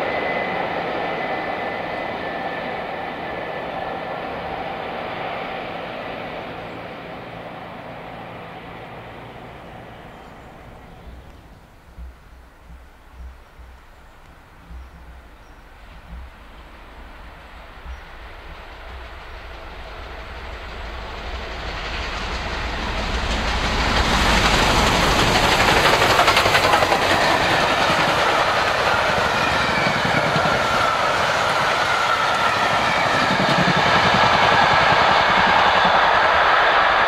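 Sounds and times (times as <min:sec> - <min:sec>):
steam locomotive passing: 0:00.0 - 0:37.0
train coaches rolling past: 0:00.0 - 0:37.0.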